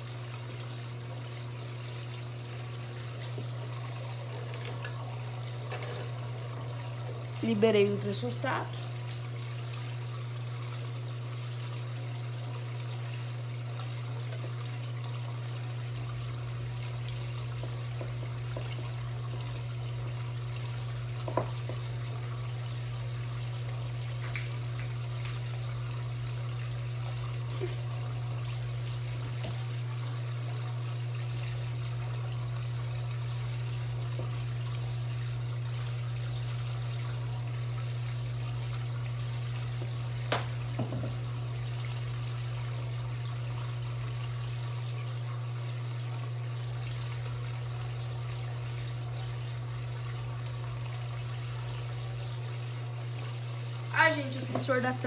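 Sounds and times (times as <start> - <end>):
low machine hum: 0.0 - 55.0
water pouring into washing machine: 0.0 - 55.0.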